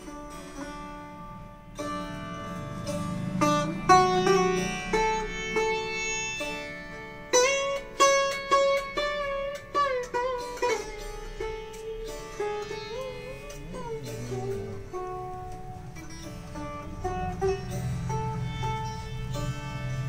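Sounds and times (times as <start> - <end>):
sitar playing: 0.0 - 20.0.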